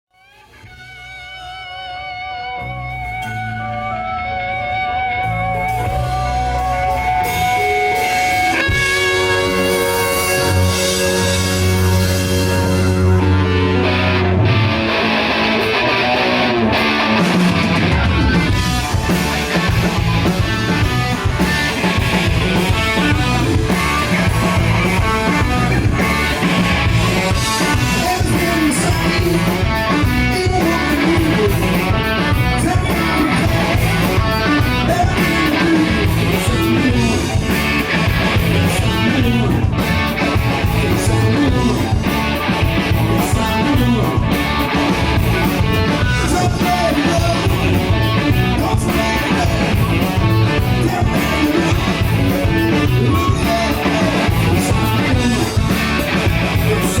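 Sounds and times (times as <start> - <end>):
rock band playing live: 0.1 - 57.0.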